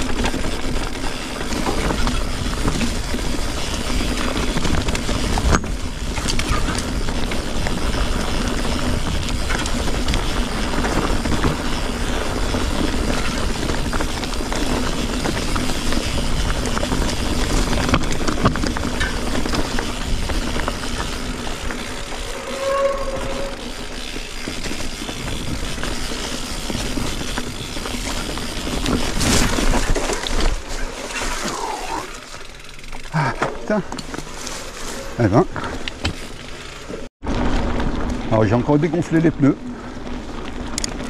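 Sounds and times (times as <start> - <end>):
knocks and rattles over rocks: 0.0 - 22.3, 24.2 - 39.1
bike tyres rolling on stony trail: 0.0 - 41.0.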